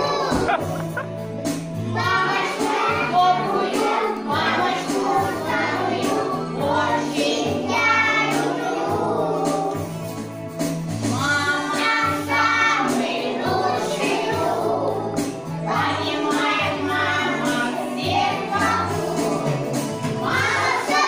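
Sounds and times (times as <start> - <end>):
children singing: 0.0 - 1.0, 1.8 - 10.0, 11.1 - 21.0.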